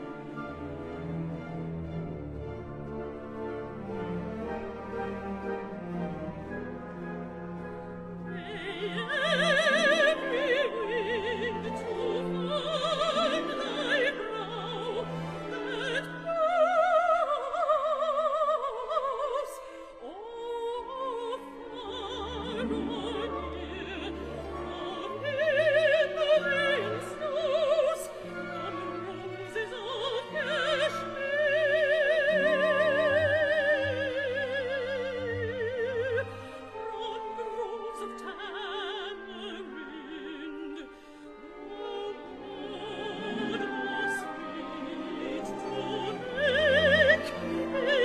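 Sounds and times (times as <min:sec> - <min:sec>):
orchestra: 0:00.0 - 0:48.0
woman singing opera: 0:08.1 - 0:48.0.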